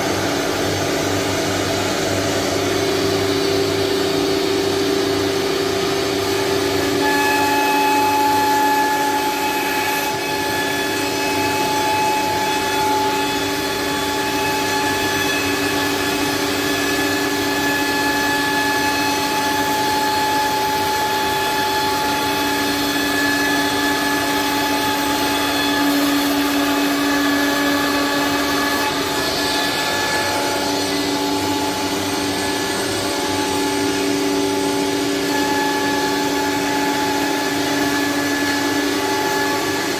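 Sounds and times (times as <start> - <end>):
wood router whining: 0.0 - 39.9.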